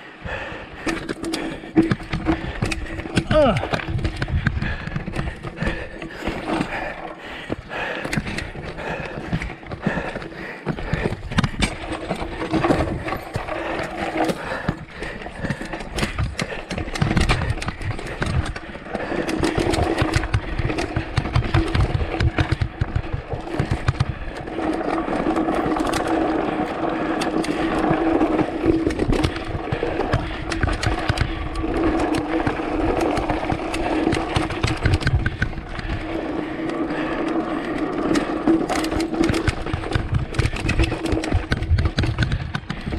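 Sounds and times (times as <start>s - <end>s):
tyres rumbling over rough ground: 0.0s - 42.9s
bike knocks and rattles: 0.3s - 42.9s
freewheel hub buzz: 0.3s - 42.9s.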